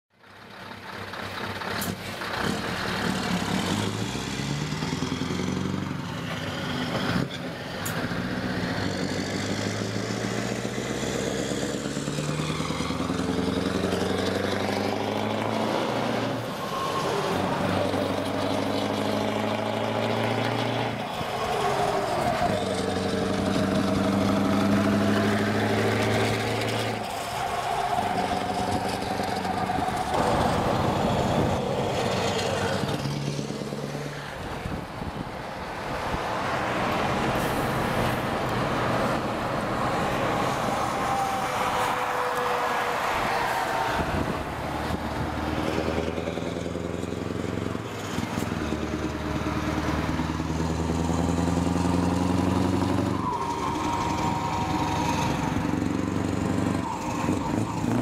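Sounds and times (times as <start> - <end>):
tyre and road noise: 0.1 - 58.0
truck engine accelerating: 0.2 - 58.0.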